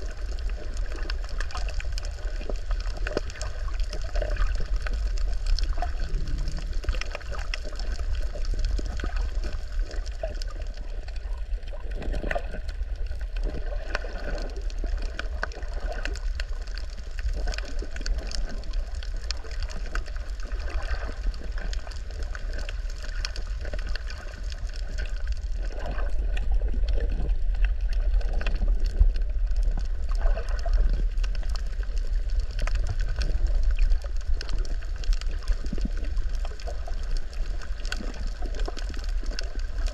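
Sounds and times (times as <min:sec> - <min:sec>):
underwater crackle of clicks: 0:00.0 - 0:39.9
underwater rumble of moving water: 0:00.0 - 0:39.9.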